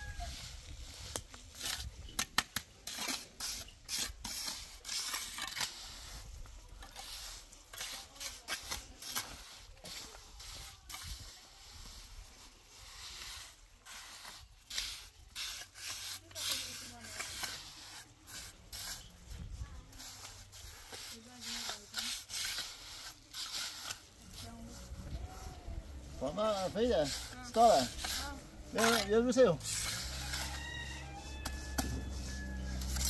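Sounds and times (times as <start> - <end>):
rustling: 0.0 - 33.0.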